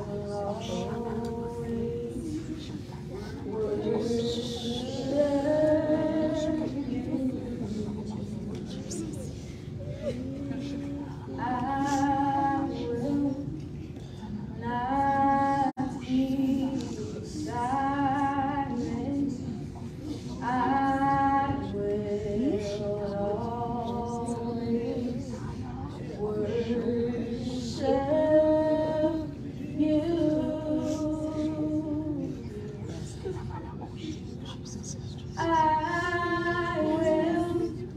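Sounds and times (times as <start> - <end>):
woman singing into a microphone: 0.0 - 9.2, 10.0 - 13.8, 14.4 - 32.9, 35.3 - 37.9
steady hum: 0.0 - 37.9.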